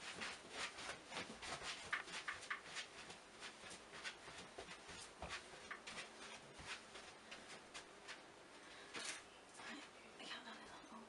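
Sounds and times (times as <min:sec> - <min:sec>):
feet scuffing and rustling: 0:00.0 - 0:09.1.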